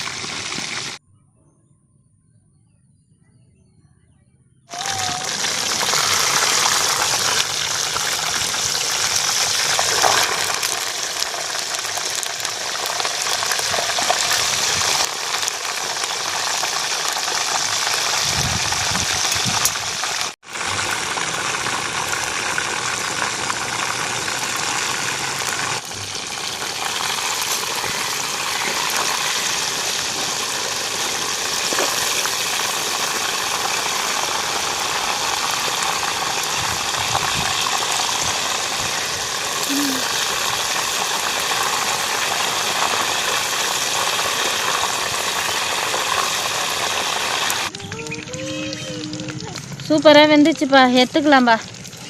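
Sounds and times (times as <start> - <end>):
food sizzling in hot oil: 0.0 - 1.0, 4.7 - 52.0.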